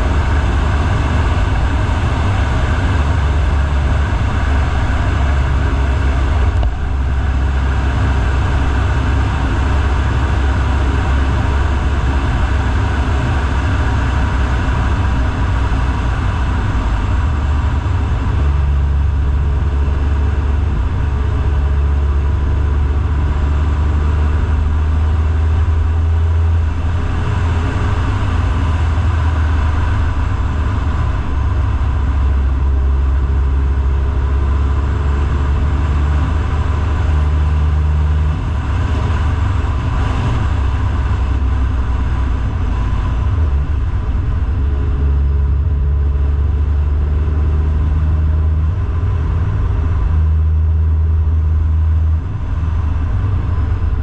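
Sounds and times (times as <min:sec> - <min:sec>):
deep steady hum: 0:00.0 - 0:54.0
vehicle engine and road noise: 0:00.0 - 0:54.0.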